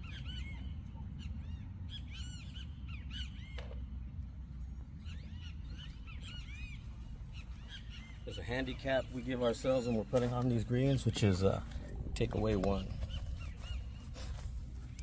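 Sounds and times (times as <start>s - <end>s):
birds whistling: 0.0s - 3.9s, 5.0s - 15.0s
steady low rumble: 0.0s - 15.0s.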